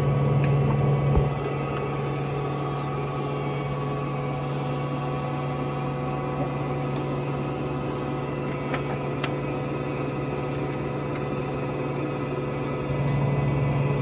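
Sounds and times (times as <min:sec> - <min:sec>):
lathe humming: 0:01.0 - 0:14.0.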